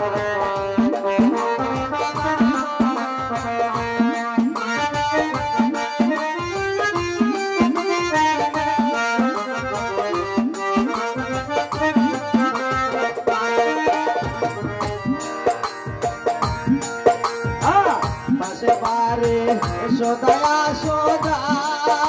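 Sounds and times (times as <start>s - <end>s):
harmonium-like keyboard melody: 0.0s - 22.0s.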